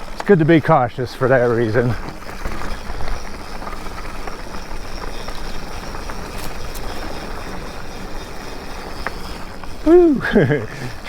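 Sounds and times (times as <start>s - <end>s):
bike tyres rolling on dirt: 0.0s - 11.0s
small clicks and rattles: 0.0s - 11.0s.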